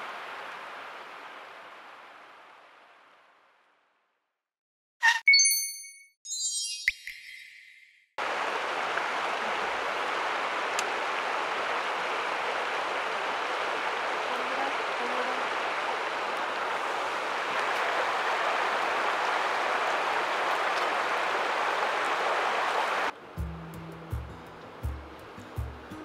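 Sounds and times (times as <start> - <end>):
flowing water rushing: 0.0 - 3.5, 8.2 - 26.0.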